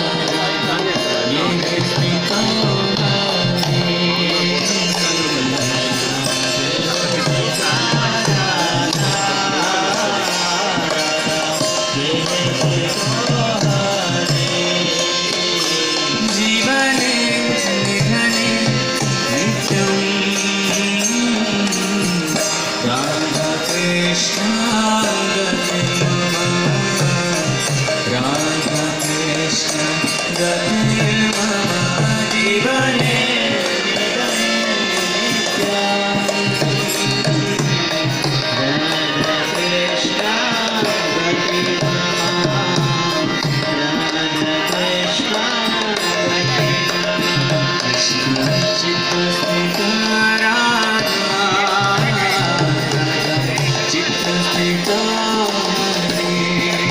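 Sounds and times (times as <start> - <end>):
devotional singing: 0.0 - 56.9
hand drum: 0.0 - 56.9.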